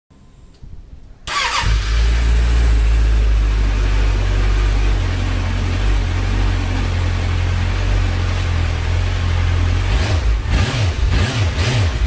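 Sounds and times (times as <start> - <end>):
motorcycle engine starting and idling: 1.2 - 12.0.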